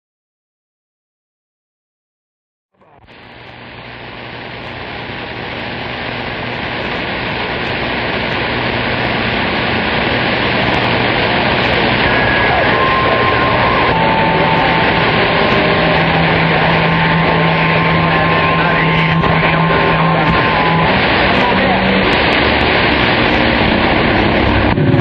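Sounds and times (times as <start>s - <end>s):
faint steady tones: 2.8s - 25.0s
radio static hiss: 2.8s - 25.0s.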